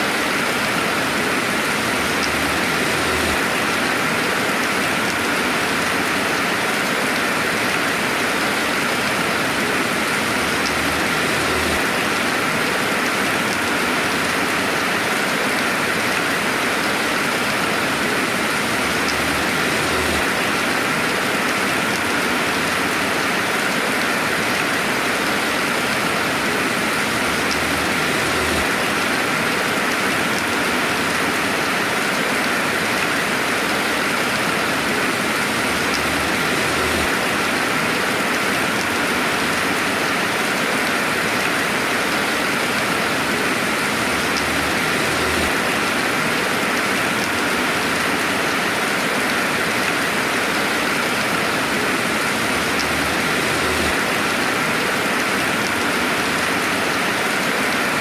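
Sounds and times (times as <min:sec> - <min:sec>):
steady rain hiss: 0:00.0 - 0:58.0
faint raindrop ticks: 0:02.0 - 0:58.0.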